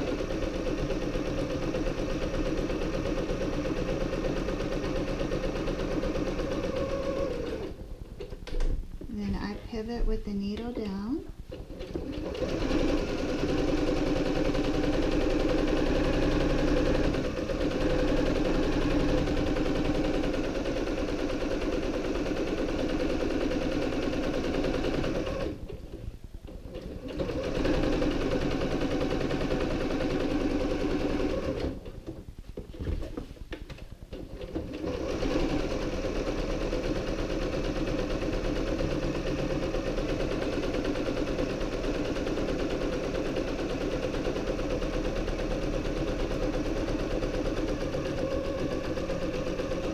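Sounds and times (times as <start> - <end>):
sewing machine stitching: 0.0 - 8.7, 11.5 - 32.0, 34.1 - 49.9.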